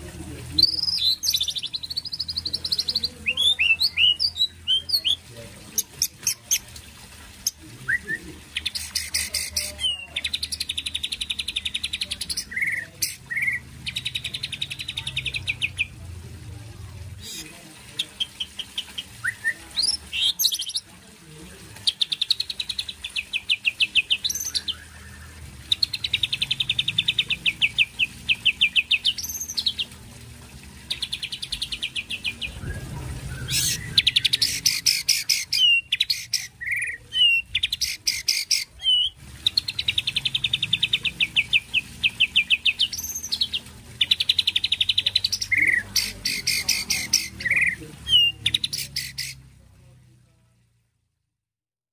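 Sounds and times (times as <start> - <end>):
bird singing trilled phrases: 0.5 - 6.7, 7.4 - 16.0, 17.2 - 20.9, 21.8 - 30.0, 30.8 - 49.5.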